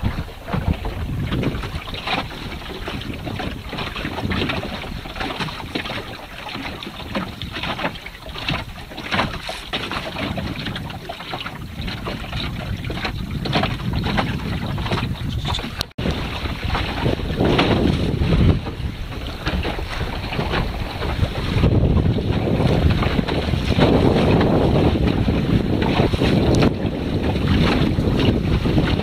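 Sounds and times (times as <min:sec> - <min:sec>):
water splashing along wooden hull: 0:00.0 - 0:29.0
wind buffeting microphone: 0:00.0 - 0:29.0.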